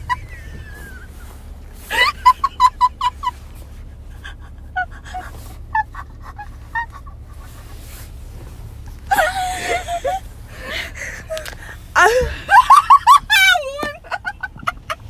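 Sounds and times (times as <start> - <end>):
woman laughing: 0.0 - 7.7, 9.1 - 15.0
car cabin rumble: 0.0 - 15.0.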